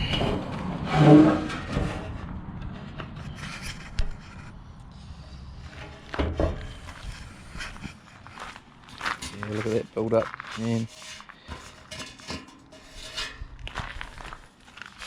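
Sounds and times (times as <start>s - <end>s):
rubbing and scraping: 0.0s - 15.0s.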